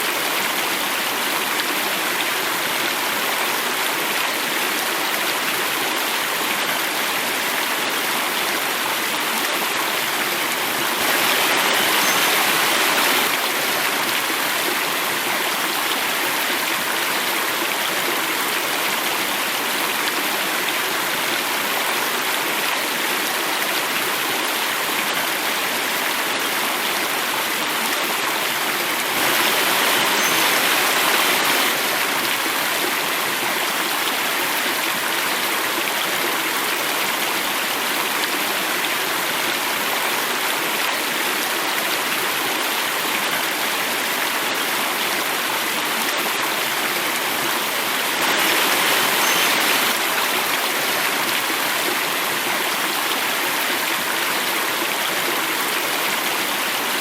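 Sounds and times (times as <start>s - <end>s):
water falling over cascade: 0.0s - 57.0s.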